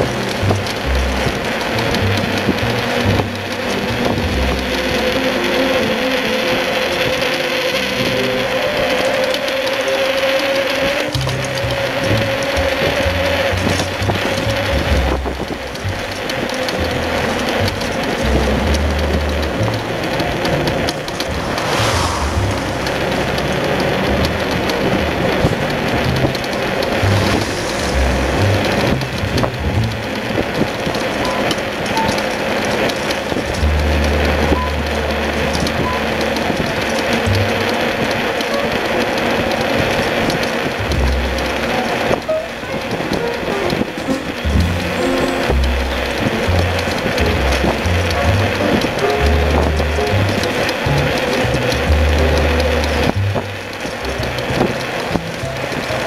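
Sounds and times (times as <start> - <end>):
trailer tyres rolling on road: 0.0 - 56.0.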